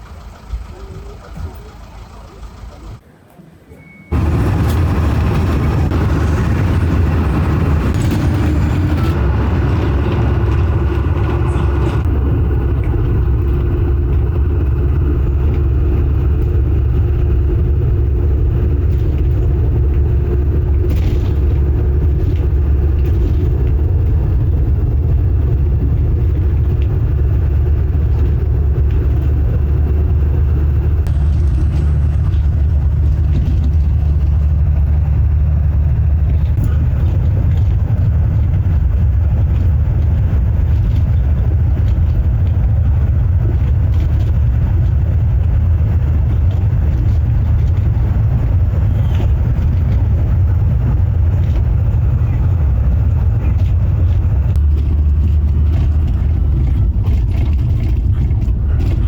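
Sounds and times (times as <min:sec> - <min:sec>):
road noise: 0:00.0 - 0:59.0
vehicle engine rumble: 0:00.0 - 0:59.0.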